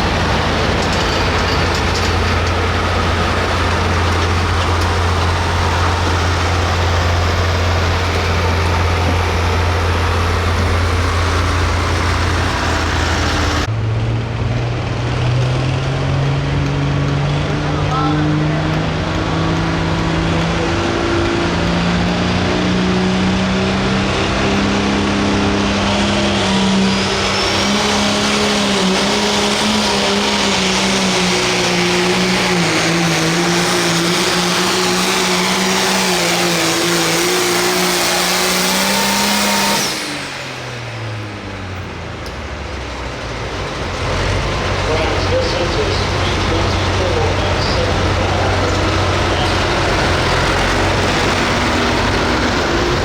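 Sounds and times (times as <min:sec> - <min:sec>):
tractor diesel engine at full throttle: 0:00.0 - 0:53.0.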